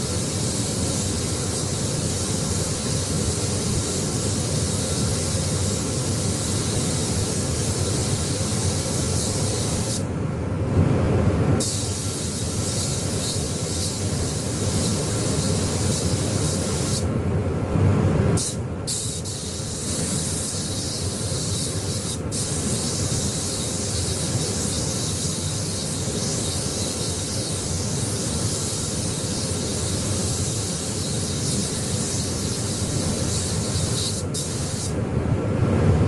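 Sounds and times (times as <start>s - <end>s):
spray gun hissing: 0.0s - 10.1s, 11.6s - 17.1s, 18.4s - 35.0s.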